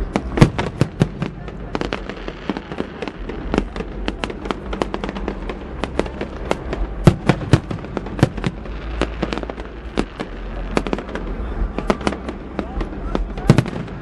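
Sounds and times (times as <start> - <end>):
fireworks banging and cracking: 0.0 - 14.0.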